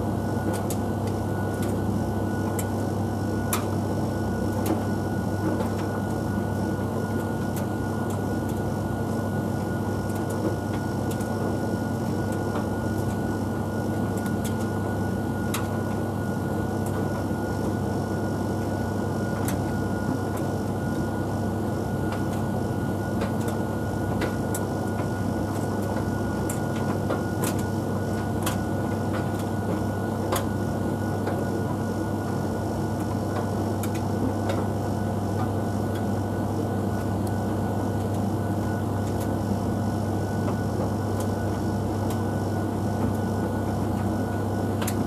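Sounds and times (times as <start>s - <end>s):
tumble dryer motor hum: 0.0s - 45.0s.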